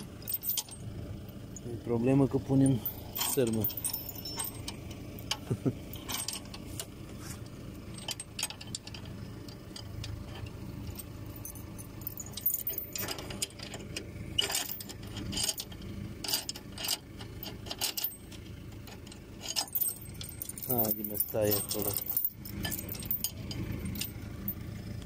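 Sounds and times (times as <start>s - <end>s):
chain and wire clinking on metal: 0.0s - 25.0s.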